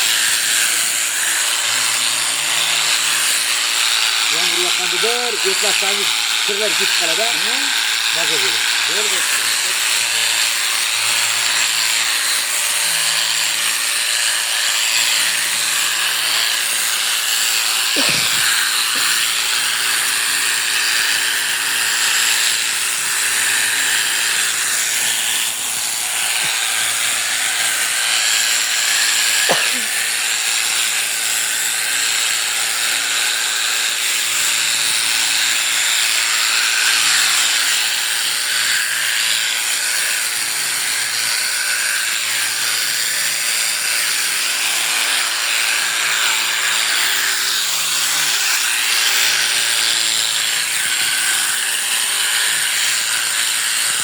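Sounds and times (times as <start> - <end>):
electric shearing clippers running: 0.0 - 54.0.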